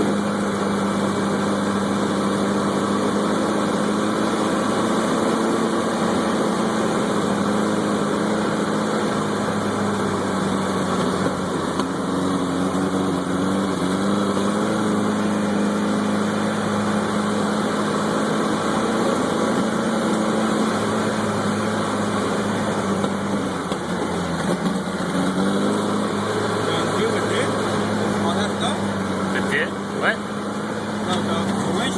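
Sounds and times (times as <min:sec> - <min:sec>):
vehicle engine at low revs: 0:00.0 - 0:31.9.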